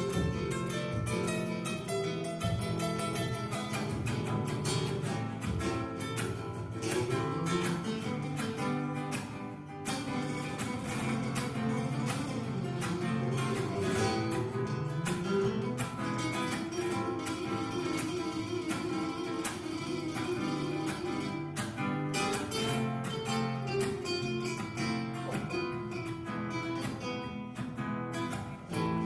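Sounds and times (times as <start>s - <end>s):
flamenco-style acoustic guitar: 0.0s - 29.0s.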